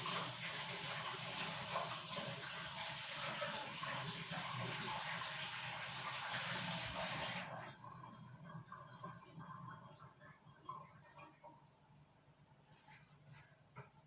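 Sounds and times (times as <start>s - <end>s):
water running from a tap: 0.0s - 11.4s.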